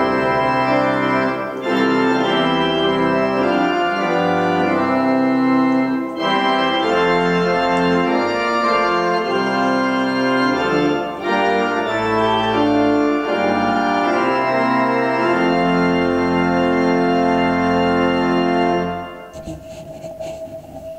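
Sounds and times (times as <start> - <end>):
organ playing a hymn: 0.0 - 20.9.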